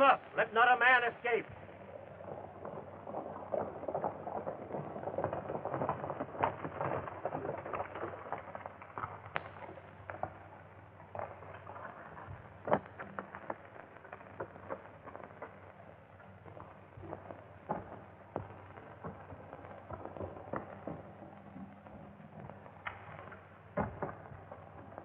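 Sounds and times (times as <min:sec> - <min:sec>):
film soundtrack hiss: 0:00.0 - 0:25.0
sharp crack: 0:00.0 - 0:25.0
galloping horse hoofbeats: 0:01.4 - 0:25.0.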